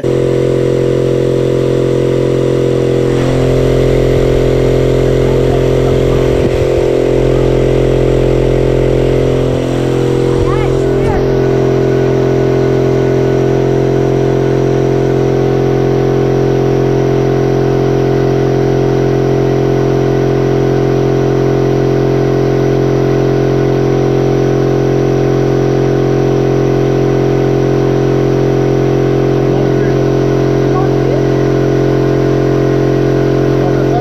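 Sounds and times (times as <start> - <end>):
air compressor running: 0.0 - 34.0.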